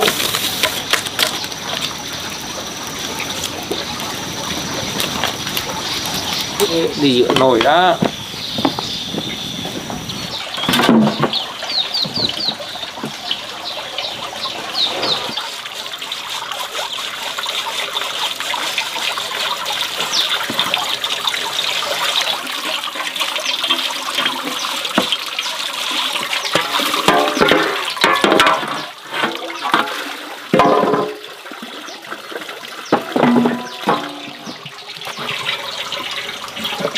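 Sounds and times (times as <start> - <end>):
water running into a pot: 0.0 - 8.3, 9.0 - 36.9.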